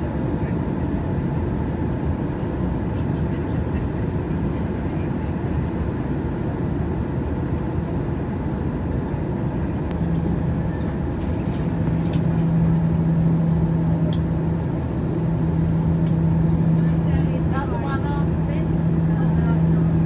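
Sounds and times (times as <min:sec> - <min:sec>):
airflow and engines rumbling: 0:00.0 - 0:20.0
steady low hum: 0:00.0 - 0:20.0.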